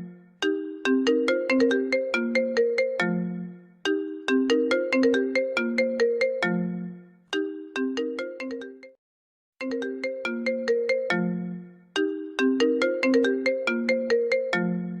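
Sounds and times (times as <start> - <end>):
phone ringtone melody: 0.0 - 9.0, 9.6 - 15.0.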